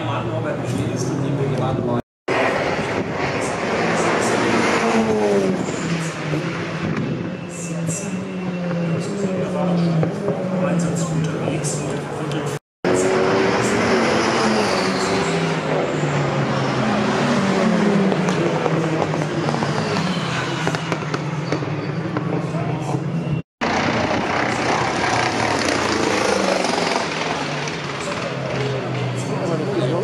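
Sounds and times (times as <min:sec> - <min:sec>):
race car engine droning: 0:00.0 - 0:30.0.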